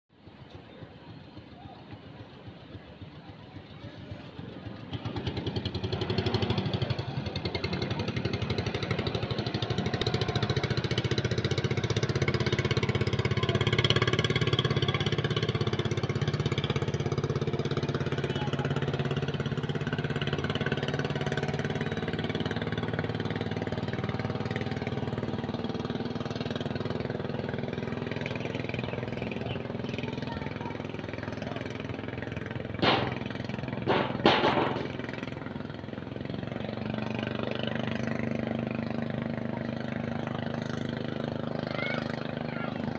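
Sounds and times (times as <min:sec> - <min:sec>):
small boat engine running: 0:00.1 - 0:42.9.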